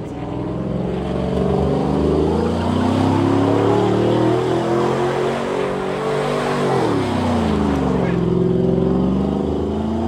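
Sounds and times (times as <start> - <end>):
vehicle engine accelerating: 0.0 - 10.0.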